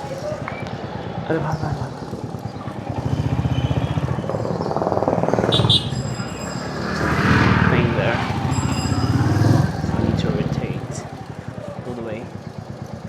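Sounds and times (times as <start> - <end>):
motorcycle engine chugging: 0.0 - 13.0.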